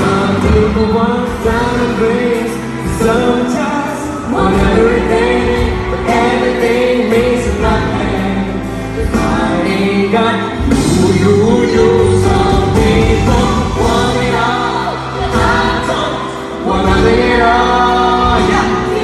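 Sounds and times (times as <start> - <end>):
instrumental backing music: 0.0 - 19.0
man and woman singing duet: 0.0 - 19.0.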